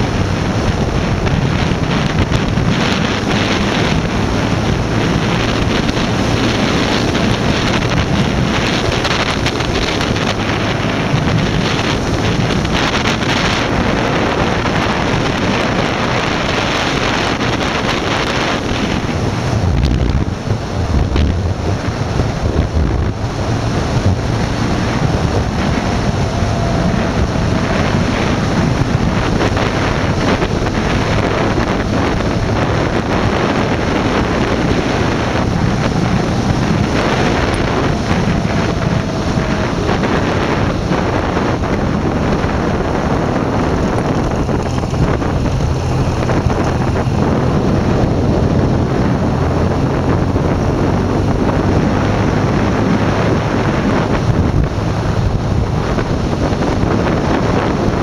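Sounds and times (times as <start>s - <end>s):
motorcycle engine running: 0.0s - 58.0s
wind over microphone: 0.0s - 58.0s.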